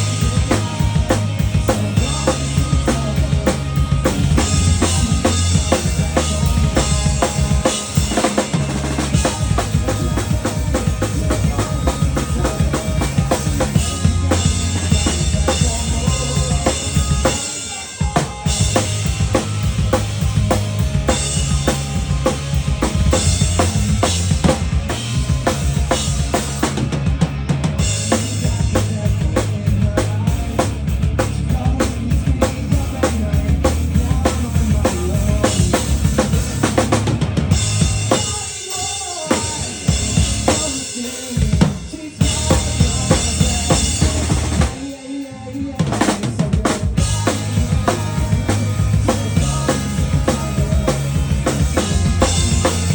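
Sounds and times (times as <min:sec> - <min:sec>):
drum kit beat: 0:00.0 - 0:52.9
live rock band playing: 0:00.0 - 0:52.9.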